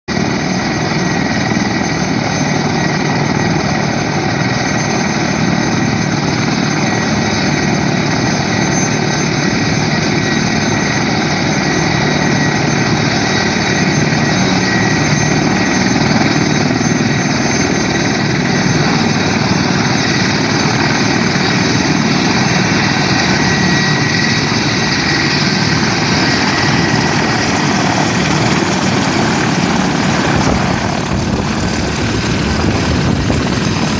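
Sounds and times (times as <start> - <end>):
helicopter rotors and engines: 0.1 - 33.9
high turbine whine: 0.1 - 33.9.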